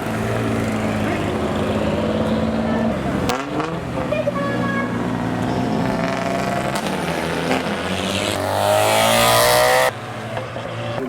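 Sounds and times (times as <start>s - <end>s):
car engine idling with loud exhaust: 0.0s - 11.0s.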